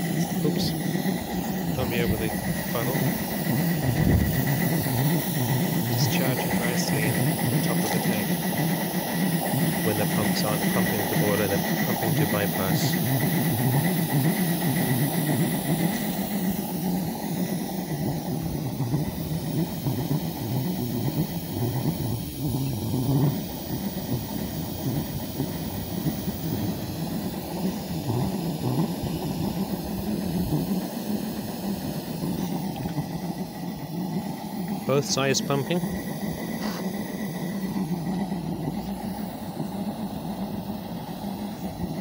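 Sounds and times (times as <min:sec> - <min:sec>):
gas burner rumbling: 0:00.0 - 0:42.0.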